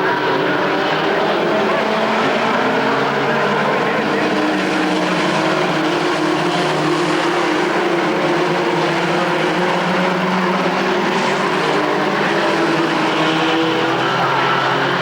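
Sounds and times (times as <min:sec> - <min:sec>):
race truck engines droning: 0:00.0 - 0:15.0.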